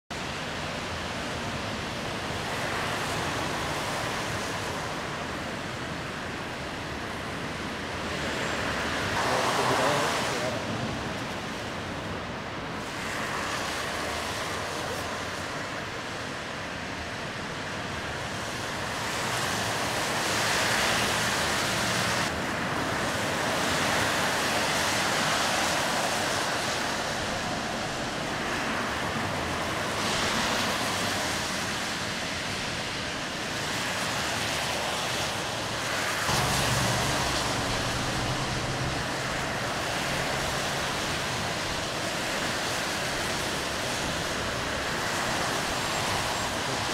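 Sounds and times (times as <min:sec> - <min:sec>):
tyres hissing on wet road: 0:00.1 - 0:46.9.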